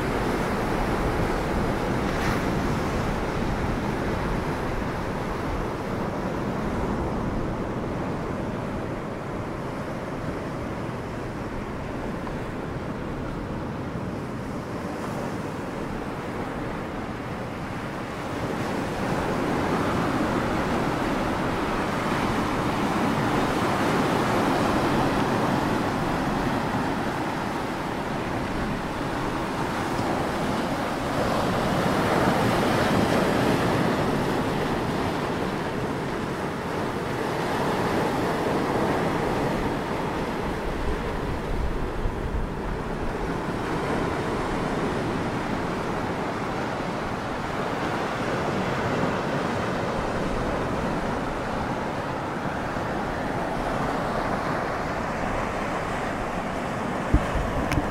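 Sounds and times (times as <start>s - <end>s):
waves breaking on rocky shore: 0.0s - 57.9s
wind on microphone: 0.0s - 57.9s.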